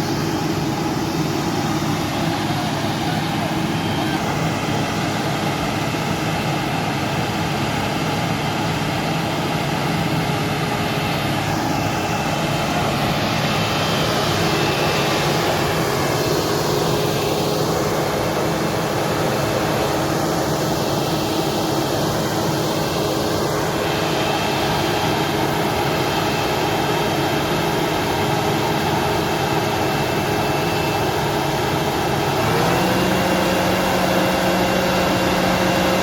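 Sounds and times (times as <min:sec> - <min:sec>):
truck diesel engine labouring: 0:00.0 - 0:36.0.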